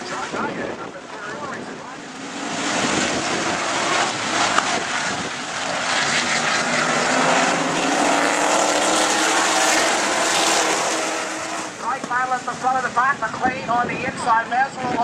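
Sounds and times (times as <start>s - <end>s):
stock car engines racing: 0.0s - 14.5s.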